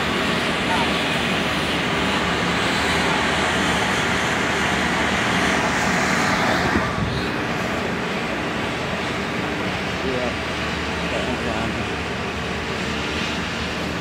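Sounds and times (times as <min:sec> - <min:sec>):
running plant machinery: 0:00.0 - 0:14.0.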